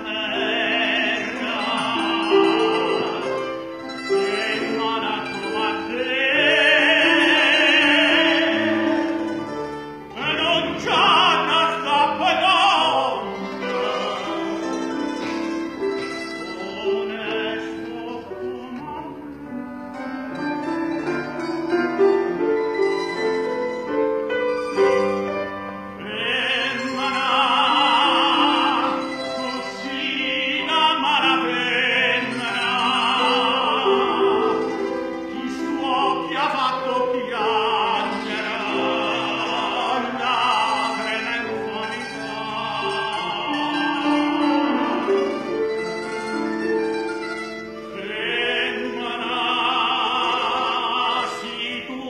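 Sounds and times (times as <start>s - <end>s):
operatic tenor singing: 0.0s - 21.2s, 24.7s - 52.0s
plucked-string accompaniment: 0.0s - 52.0s.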